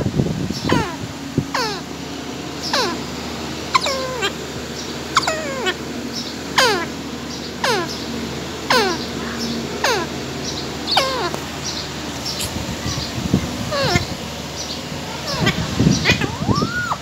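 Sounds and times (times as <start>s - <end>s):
parakeet screeching calls: 0.6s - 17.0s.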